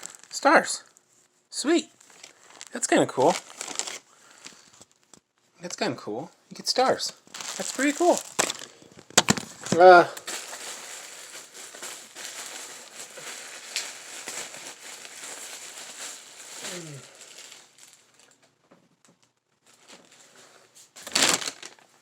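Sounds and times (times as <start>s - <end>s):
packaging crinkling: 0.0s - 1.1s, 1.9s - 5.2s, 7.2s - 18.4s, 19.2s - 22.0s.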